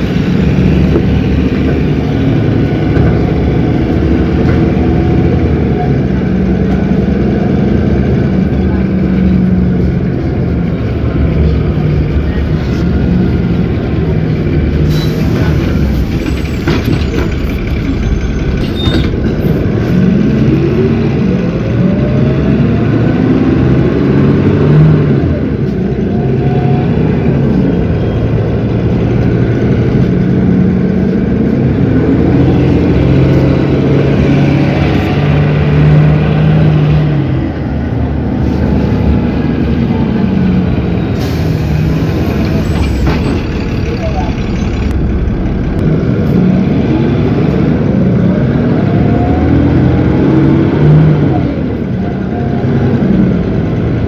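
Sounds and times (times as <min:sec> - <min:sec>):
diesel bus engine running: 0:00.0 - 0:54.0.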